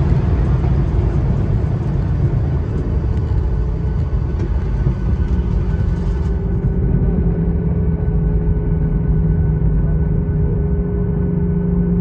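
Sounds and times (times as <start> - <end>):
airliner rumbling while taxiing: 0.0 - 12.0.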